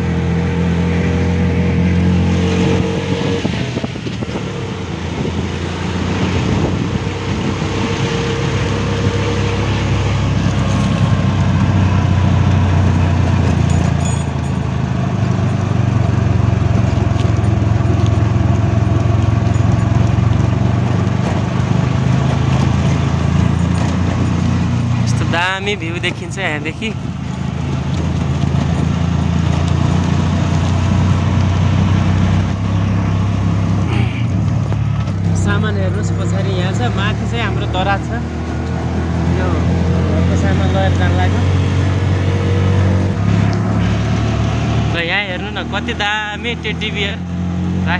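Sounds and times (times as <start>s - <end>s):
auto-rickshaw engine humming: 0.0s - 47.9s
road and wind noise: 0.0s - 47.9s.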